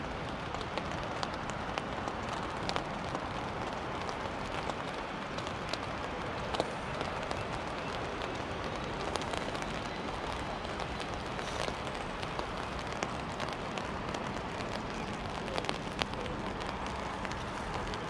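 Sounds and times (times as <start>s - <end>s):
rain falling on an umbrella: 0.0s - 18.0s.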